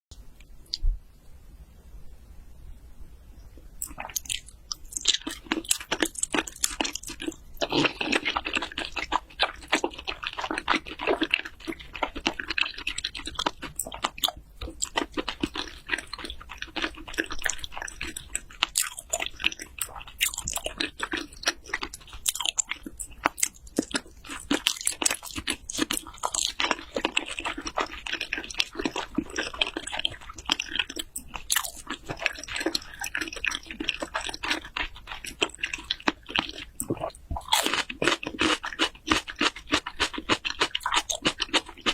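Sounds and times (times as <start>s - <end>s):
wet chewing and mouth smacks: 3.8s - 41.9s.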